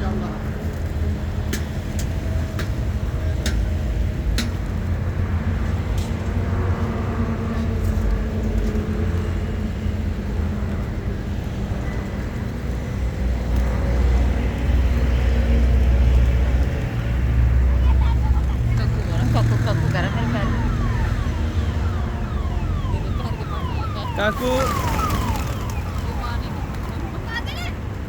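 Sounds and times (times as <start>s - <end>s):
road traffic rumble: 0.0s - 28.0s
vehicle approaching: 0.1s - 28.0s.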